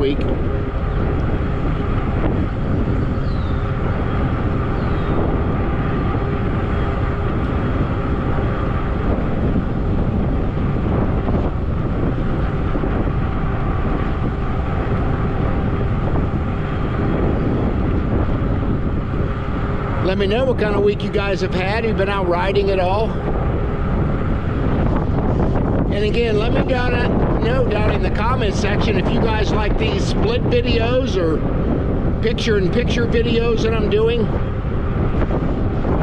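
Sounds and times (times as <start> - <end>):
faint steady bike hum: 0.0 - 36.0
wind rushing over microphone: 0.0 - 36.0.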